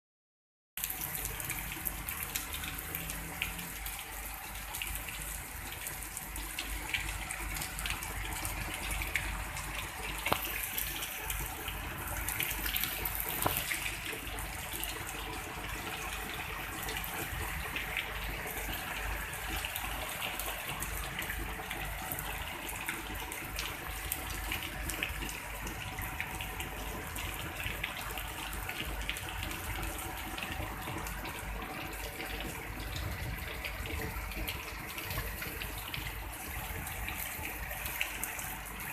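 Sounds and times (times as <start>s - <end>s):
water dripping off roof edge: 0.8s - 38.9s.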